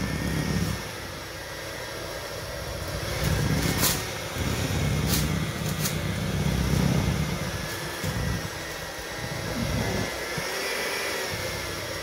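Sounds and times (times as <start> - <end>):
electric mixer humming: 0.0 - 12.0.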